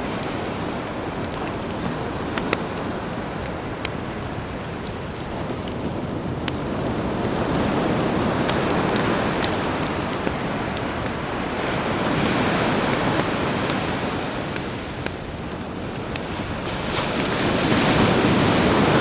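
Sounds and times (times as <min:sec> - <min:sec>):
campfire crackling: 0:00.0 - 0:19.0
sea waves surging: 0:00.0 - 0:19.0.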